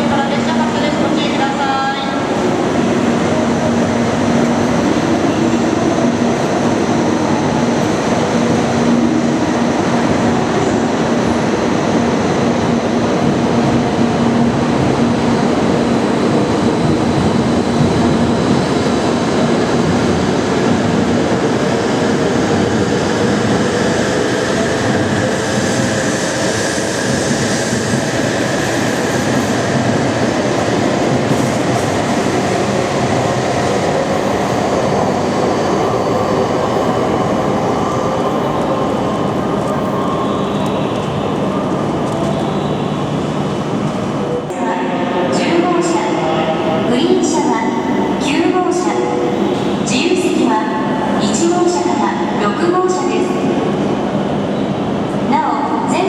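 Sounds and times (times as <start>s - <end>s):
train wheel and running noise: 0.0s - 56.0s.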